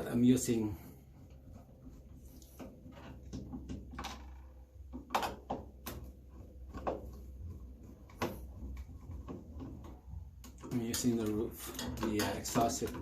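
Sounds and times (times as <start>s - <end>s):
knocks and clatters of parts: 1.2s - 13.0s.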